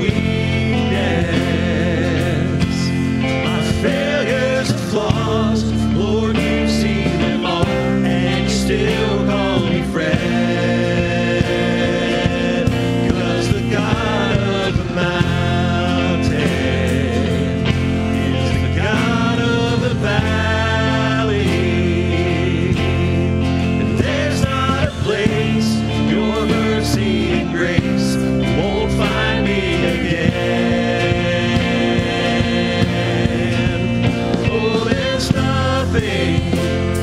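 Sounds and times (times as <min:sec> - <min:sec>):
bass guitar: 0:00.0 - 0:37.0
drums: 0:00.0 - 0:37.0
electric guitar: 0:00.0 - 0:37.0
keyboard: 0:00.0 - 0:37.0
man and woman singing: 0:00.0 - 0:37.0.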